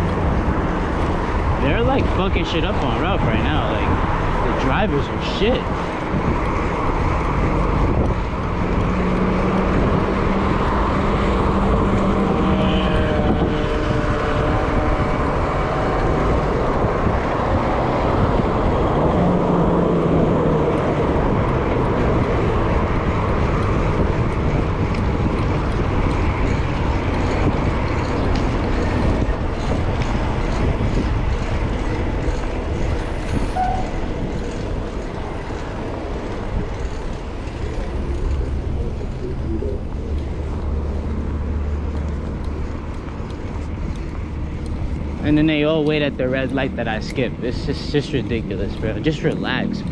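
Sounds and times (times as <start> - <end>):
droning vehicle tones: 0.0 - 49.9
motor vehicles passing: 0.0 - 49.9
wind and road noise: 0.0 - 49.9.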